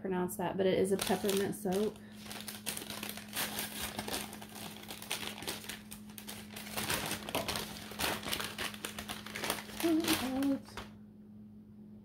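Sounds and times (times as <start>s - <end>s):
steady low hum: 0.0s - 12.0s
paper wrapping crinkling: 0.8s - 10.9s.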